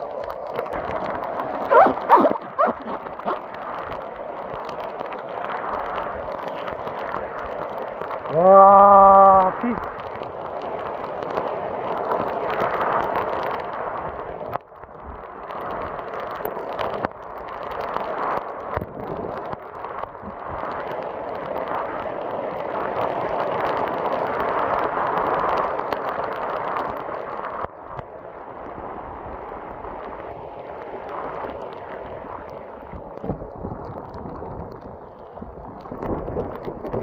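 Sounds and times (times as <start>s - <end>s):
torrential rain pouring: 0.0s - 37.0s.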